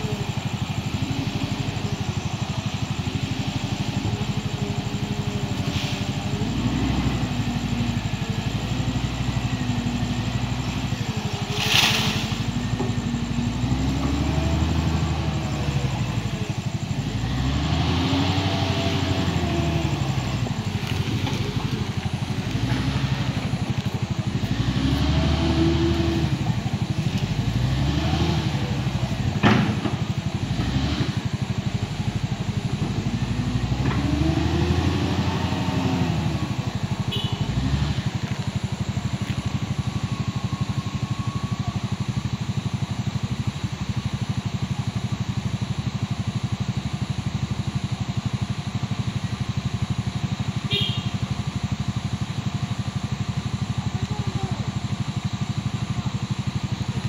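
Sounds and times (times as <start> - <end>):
diesel engine revving under load: 0.0 - 57.0.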